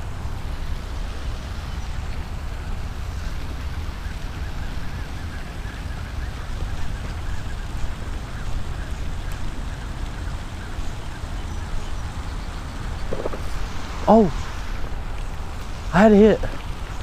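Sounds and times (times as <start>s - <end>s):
constant low rumble: 0.0s - 17.0s
rain falling: 0.0s - 17.0s.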